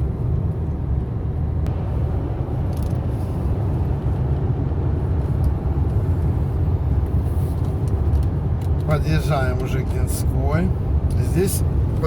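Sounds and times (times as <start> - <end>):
car cruising road rumble: 0.0 - 12.0.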